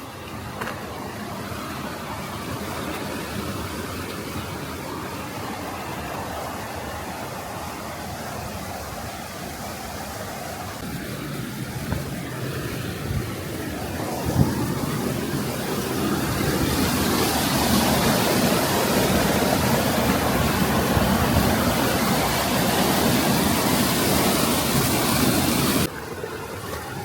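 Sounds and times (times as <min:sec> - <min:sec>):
fast-flowing stream water: 0:00.0 - 0:27.0.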